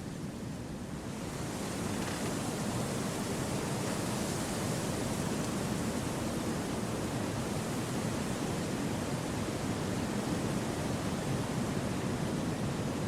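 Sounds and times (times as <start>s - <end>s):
wind through a forest: 0.0s - 13.0s.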